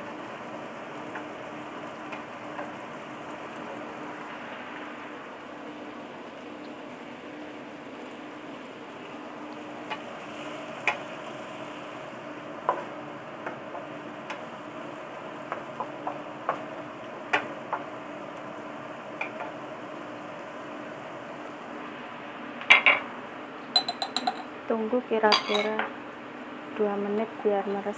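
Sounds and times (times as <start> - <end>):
vegetables sizzling in a wok: 0.0 - 23.8.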